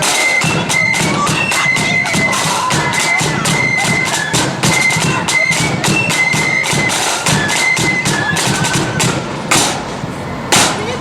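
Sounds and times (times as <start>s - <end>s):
bagpipes playing melody: 0.0s - 9.2s
snare and bass drums: 0.0s - 11.0s.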